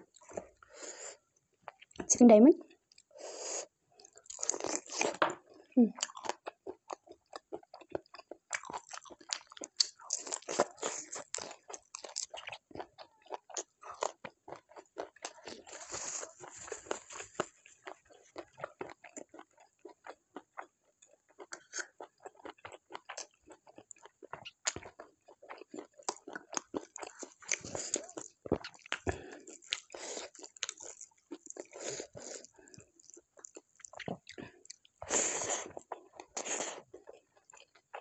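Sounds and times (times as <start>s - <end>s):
person chewing food: 0.1s - 38.0s.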